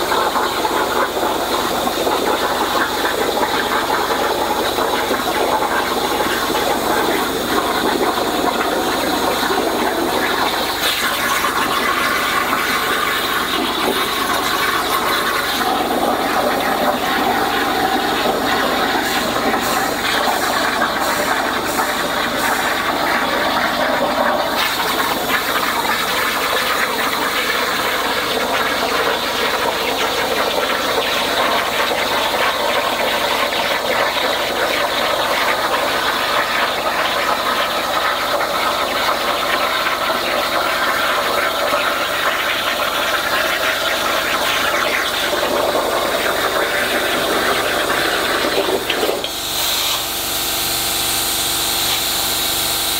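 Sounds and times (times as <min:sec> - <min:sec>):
plasma torch cutting steel: 0:00.0 - 0:35.8, 0:36.6 - 0:52.9.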